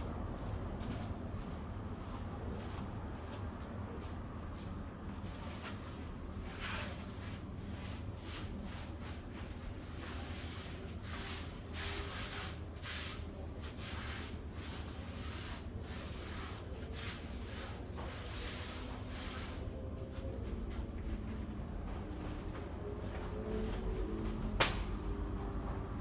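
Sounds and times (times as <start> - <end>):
rustling and scraping handling noise: 0.2 - 26.0.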